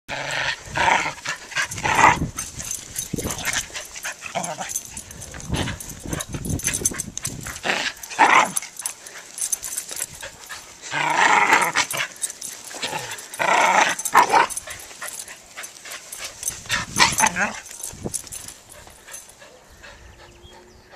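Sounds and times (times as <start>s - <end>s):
dogs barking and yipping: 0.2s - 20.7s.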